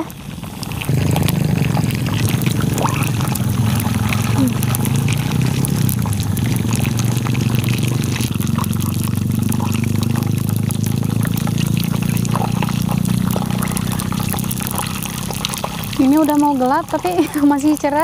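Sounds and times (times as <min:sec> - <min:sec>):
low rumble: 0:00.0 - 0:15.9
oil sizzling in frying pan: 0:00.0 - 0:18.0.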